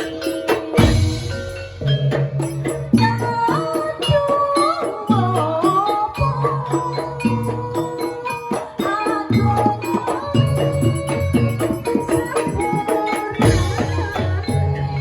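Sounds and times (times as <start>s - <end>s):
struck percussion and drumming: 0.0s - 15.0s.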